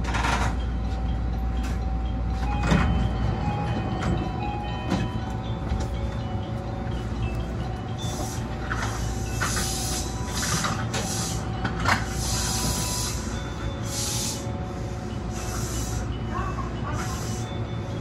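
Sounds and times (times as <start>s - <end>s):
train running low rumble: 0.0s - 18.0s.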